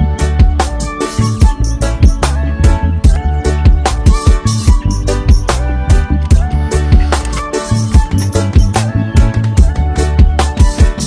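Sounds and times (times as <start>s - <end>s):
afrobeat-like music with drums: 0.0s - 11.0s.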